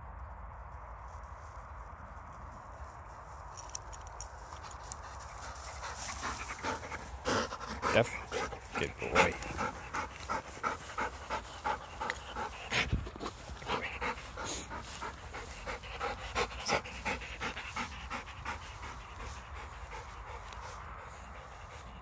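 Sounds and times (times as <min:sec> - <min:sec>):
dog panting: 0:04.3 - 0:22.0.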